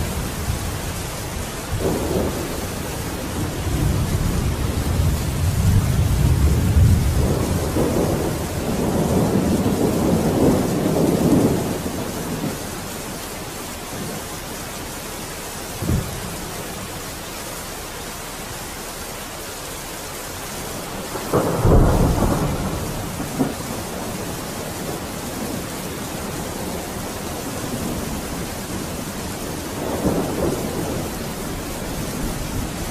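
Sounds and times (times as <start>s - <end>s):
rolling thunder: 0.0s - 13.0s, 15.7s - 17.0s, 20.6s - 32.9s
steady rain: 0.0s - 32.9s.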